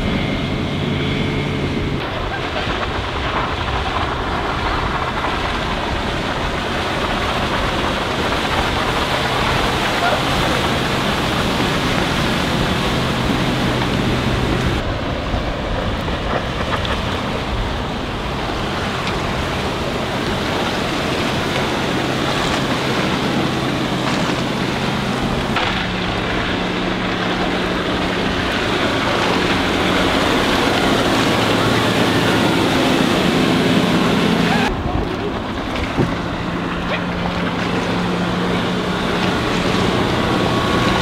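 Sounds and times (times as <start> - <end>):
boat engine running at speed: 0.0 - 41.0
wind on microphone: 0.0 - 41.0.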